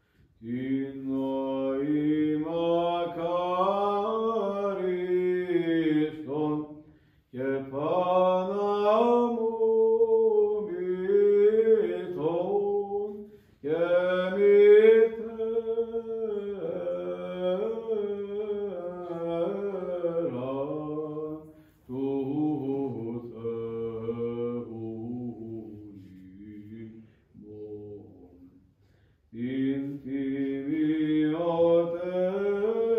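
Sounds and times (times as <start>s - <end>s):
man singing liturgical chant: 0.4s - 28.6s, 29.3s - 32.9s.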